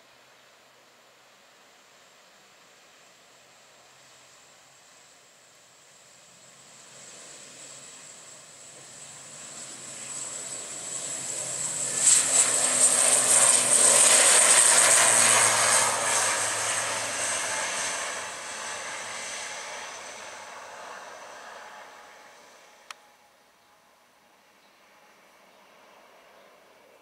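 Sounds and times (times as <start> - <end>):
propeller drone: 2.7 - 27.0
turbine whine: 4.0 - 27.0.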